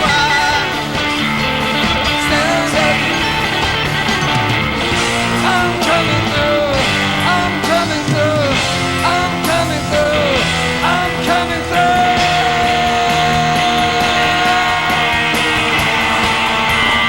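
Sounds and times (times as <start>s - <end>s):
band playing rock music: 0.0s - 17.0s
electric guitar: 0.0s - 17.0s.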